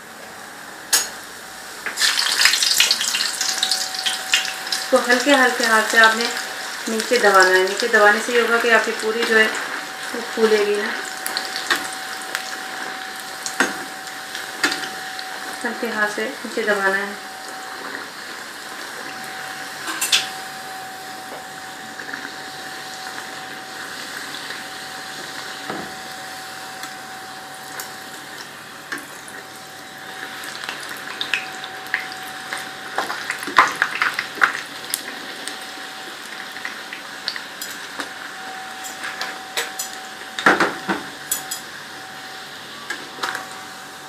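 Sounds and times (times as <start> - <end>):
frying in hot oil sizzling: 0.0 - 44.0.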